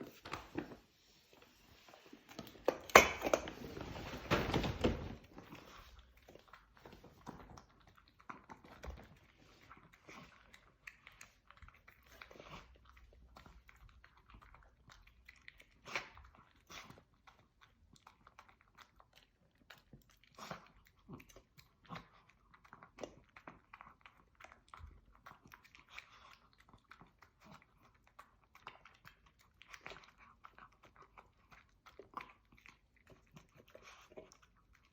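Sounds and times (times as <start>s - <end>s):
dog chewing with crunches: 1.8s - 34.9s.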